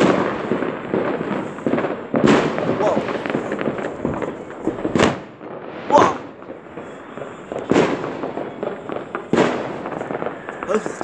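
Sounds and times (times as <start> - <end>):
fireworks crackling pops: 0.0 - 11.0
fireworks sharp bangs: 0.0 - 11.0.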